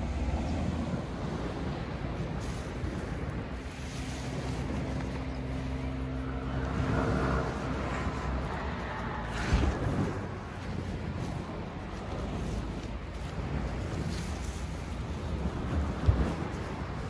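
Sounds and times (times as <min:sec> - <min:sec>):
low hum: 0:00.0 - 0:17.0
rushing wind-like noise: 0:00.0 - 0:17.0
vehicle engine running: 0:00.0 - 0:17.0.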